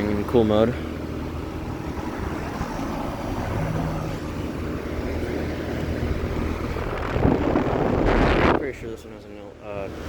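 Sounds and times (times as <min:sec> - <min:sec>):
compressor humming: 0:00.0 - 0:10.0
fan whirring: 0:00.0 - 0:10.0.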